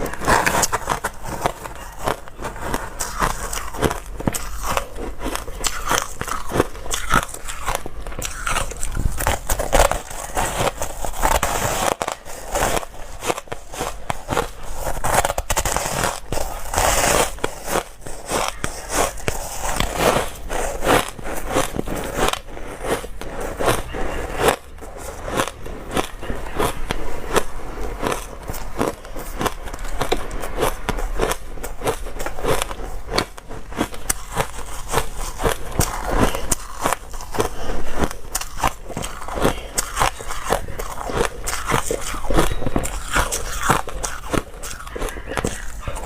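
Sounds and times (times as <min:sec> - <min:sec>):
ice being chewed: 0:00.0 - 0:46.0.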